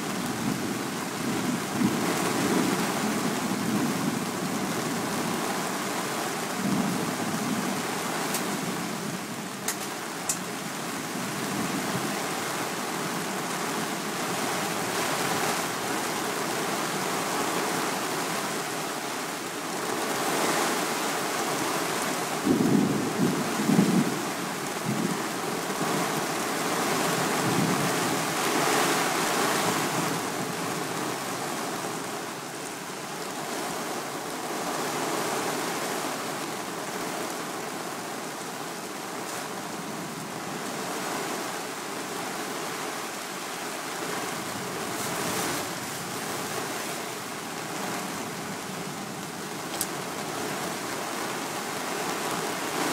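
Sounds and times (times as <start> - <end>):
gusting wind: 0.0 - 52.9
heavy rain: 0.0 - 52.9.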